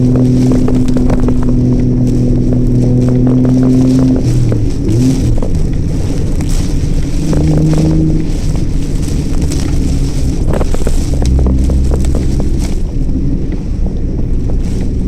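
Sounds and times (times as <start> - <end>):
car engine hum: 0.0 - 15.0
road noise: 0.0 - 15.0
rushing wind: 0.0 - 15.0.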